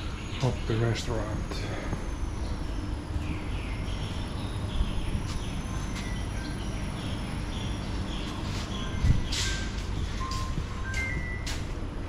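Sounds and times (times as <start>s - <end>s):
small birds chirping: 0.0s - 11.7s
faint high whine: 0.0s - 12.0s
low background rumble: 0.0s - 12.0s.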